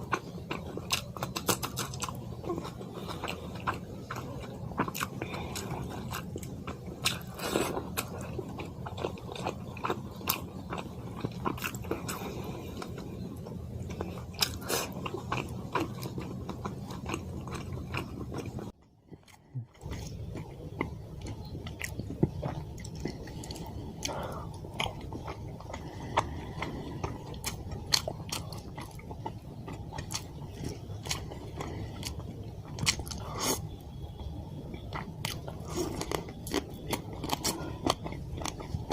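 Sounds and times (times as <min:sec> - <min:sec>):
person chewing food: 0:00.0 - 0:38.9
steady low hum: 0:00.0 - 0:38.9.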